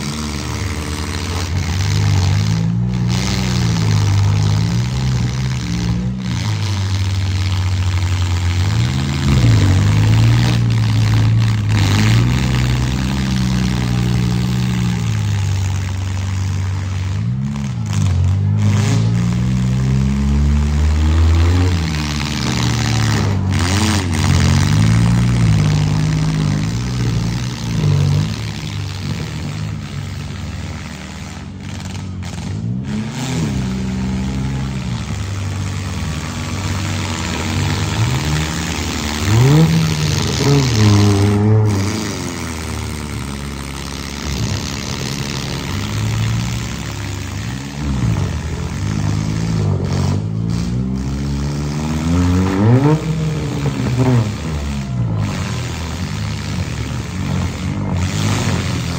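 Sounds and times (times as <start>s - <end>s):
car engines revving: 0.0s - 58.9s
low engine rumble: 0.0s - 58.9s.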